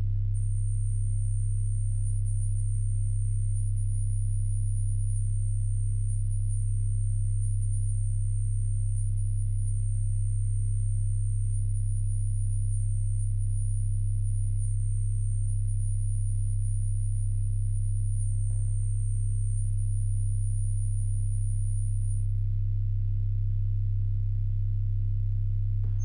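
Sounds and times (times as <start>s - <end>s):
organ bass drone: 0.0s - 26.0s.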